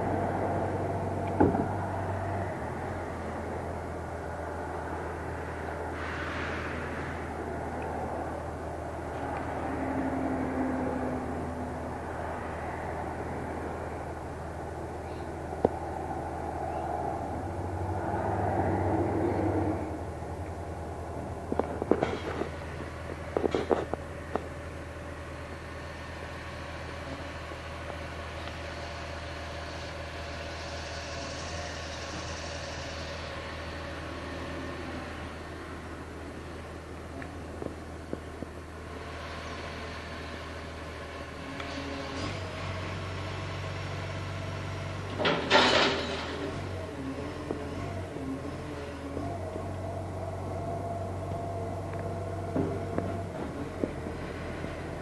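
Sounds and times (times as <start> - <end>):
diesel truck engine running: 0.0 - 55.0
road noise: 0.0 - 55.0.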